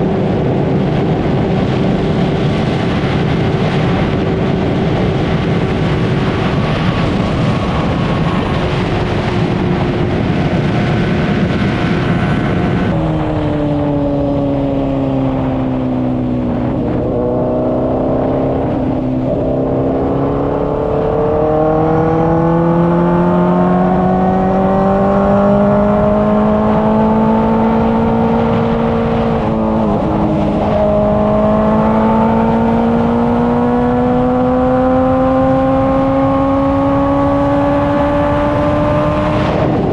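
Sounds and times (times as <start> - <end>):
motorcycle engine at speed: 0.0 - 39.9
wind rush: 0.0 - 39.9.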